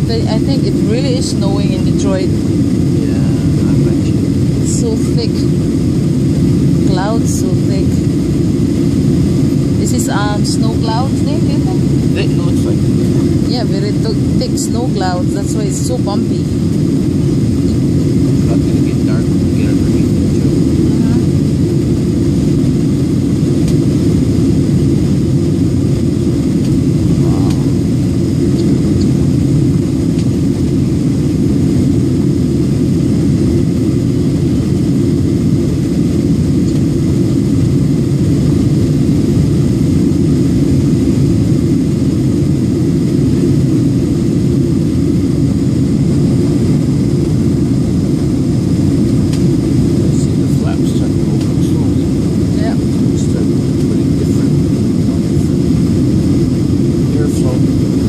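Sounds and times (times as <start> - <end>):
jet engine cabin rumble: 0.0 - 58.0.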